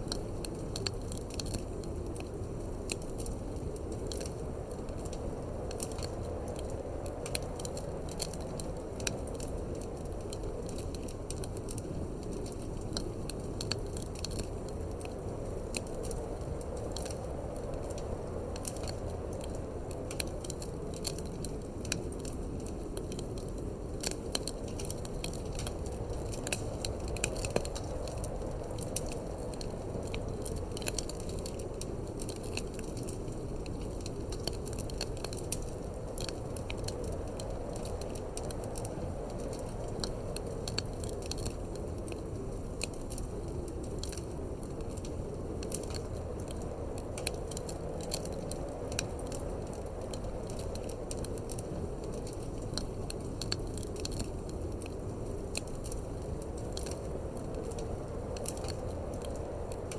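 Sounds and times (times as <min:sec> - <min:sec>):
fire popping: 0:00.0 - 0:59.9
low rushing wind: 0:00.0 - 0:59.9
wood fire crackling: 0:00.0 - 0:59.9.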